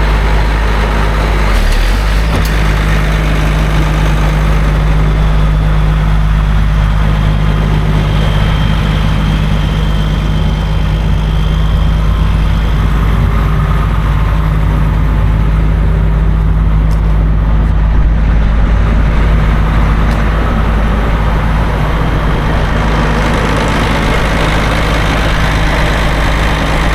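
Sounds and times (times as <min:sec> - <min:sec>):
tractor diesel engine droning: 0:00.0 - 0:26.9.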